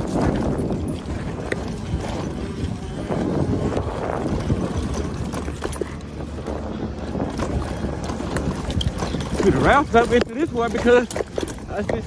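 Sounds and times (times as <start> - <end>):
bike knocks and rattles: 0.0 - 12.0
bike tyre noise on dirt: 0.0 - 12.0
wind on microphone: 0.0 - 12.0.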